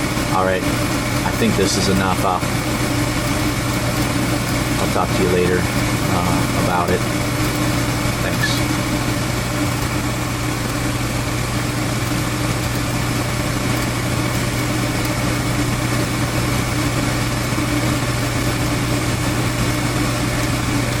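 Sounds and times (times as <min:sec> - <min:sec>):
gas furnace humming: 0:00.0 - 0:21.0.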